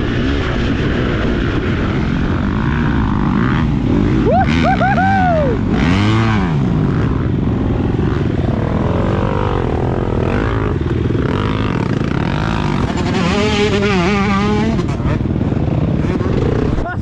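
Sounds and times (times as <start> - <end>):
motocross bike engine revving: 1.3 - 17.0.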